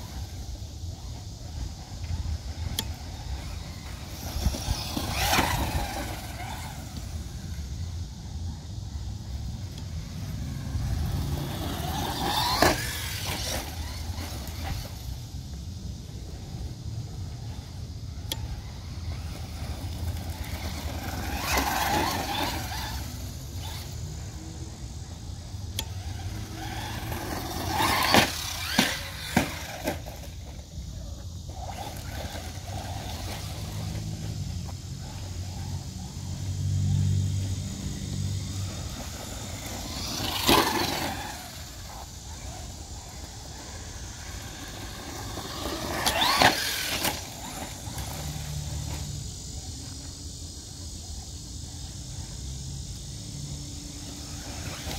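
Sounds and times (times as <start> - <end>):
toy truck electric motor whining: 0.0 - 8.4, 9.2 - 15.4, 16.2 - 35.8, 37.7 - 49.1, 53.9 - 54.9.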